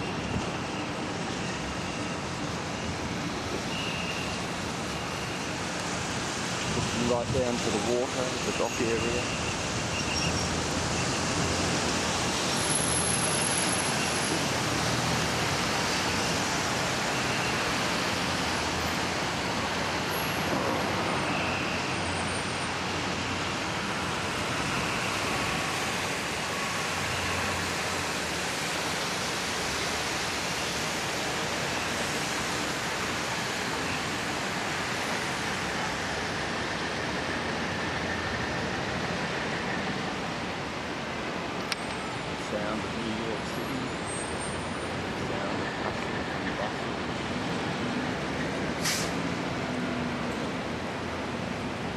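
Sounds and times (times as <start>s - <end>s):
traffic on wet street: 0.0s - 51.9s.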